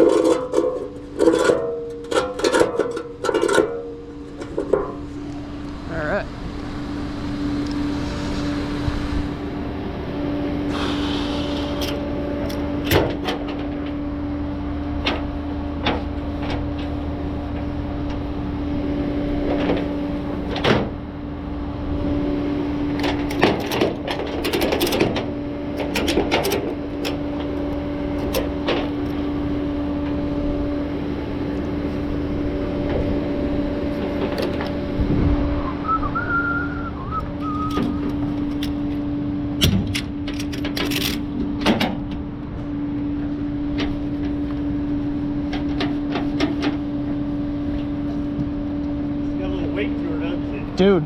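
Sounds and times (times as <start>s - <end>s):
vehicle cab drone: 0.0s - 51.0s.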